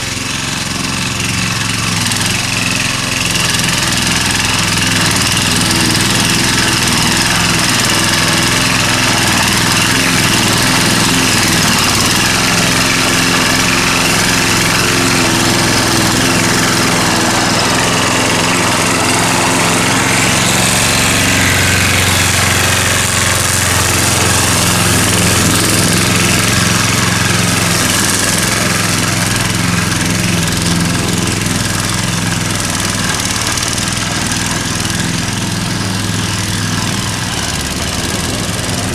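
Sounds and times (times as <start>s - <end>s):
lawn mower engine cutting grass: 0.0s - 38.9s.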